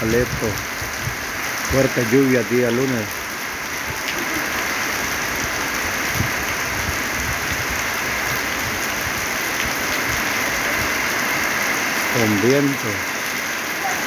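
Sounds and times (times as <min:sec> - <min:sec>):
heavy rain on a metal roof: 0:00.0 - 0:14.0
water streaming off roof: 0:00.0 - 0:14.0.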